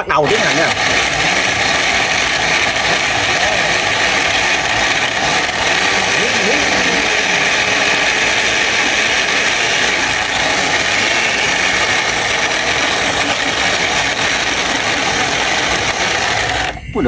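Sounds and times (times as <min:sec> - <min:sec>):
electric blender whirring: 0:00.0 - 0:16.9.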